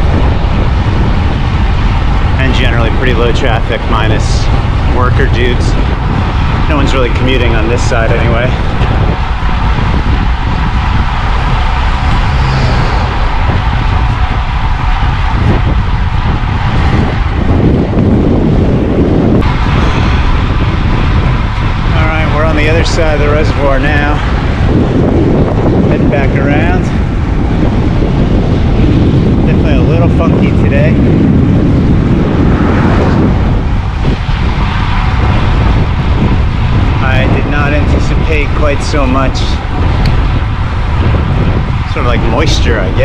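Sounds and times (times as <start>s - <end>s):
wind rumbling on microphone: 0.0s - 43.0s.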